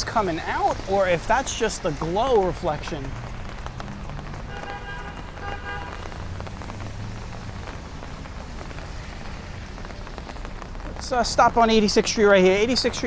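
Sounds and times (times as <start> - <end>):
rain falling on street: 0.0 - 13.0.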